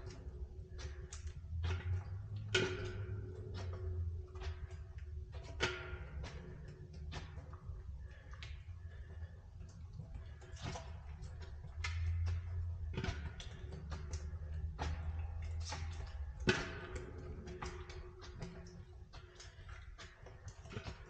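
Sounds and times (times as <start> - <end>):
knocks echoing in a pipe: 0.0 - 21.0.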